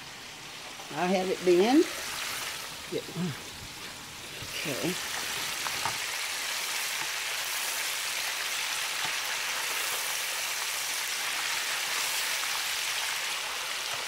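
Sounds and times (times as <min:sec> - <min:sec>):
fish deep-frying in bubbling oil: 0:00.0 - 0:14.0.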